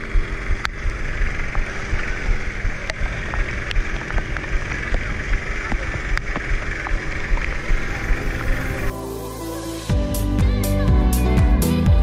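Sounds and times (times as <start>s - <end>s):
boat engine rumble: 0.0s - 11.2s.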